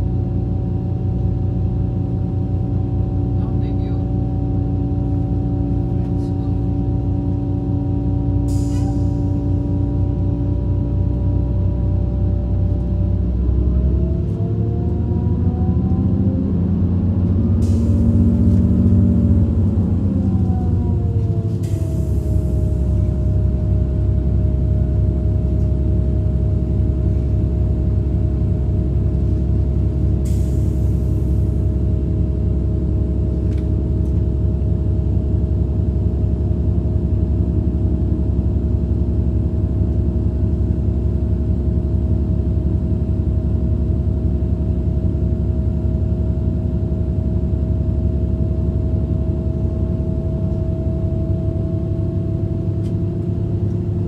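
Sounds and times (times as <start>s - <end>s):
diesel train rumble: 0.0s - 54.0s.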